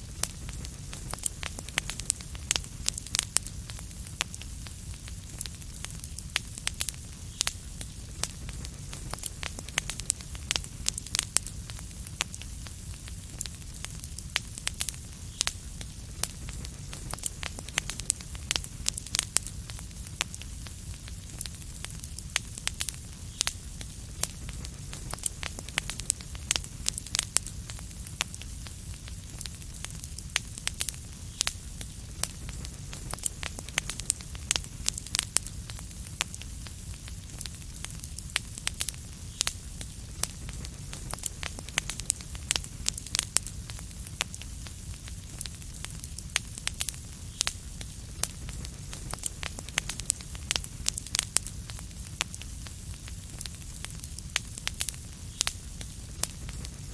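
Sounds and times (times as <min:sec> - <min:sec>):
wood fire crackling: 0:00.0 - 0:56.9
burning wood popping: 0:00.1 - 0:56.9.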